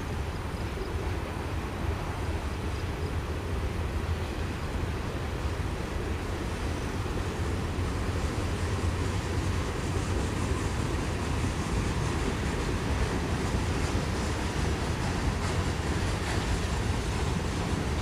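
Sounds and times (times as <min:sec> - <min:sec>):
freight cars rolling on rails: 0:01.4 - 0:18.0.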